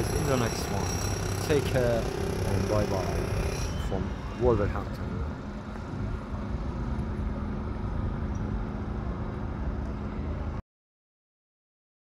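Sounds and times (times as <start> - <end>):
road traffic rumble: 0.0 - 10.6.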